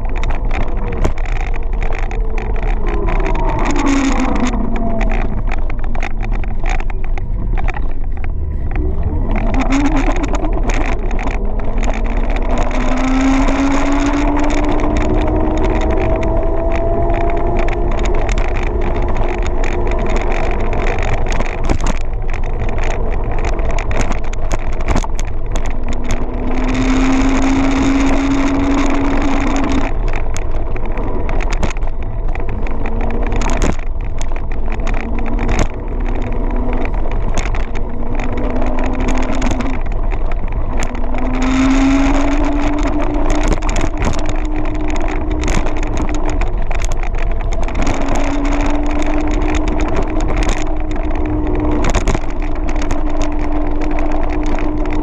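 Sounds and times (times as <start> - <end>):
rattles and knocks from bumps: 0.0 - 55.0
wind and road noise: 0.0 - 55.0.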